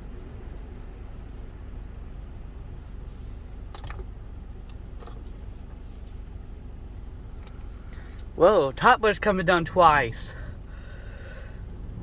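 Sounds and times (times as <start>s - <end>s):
car wash machinery humming: 0.0s - 12.0s.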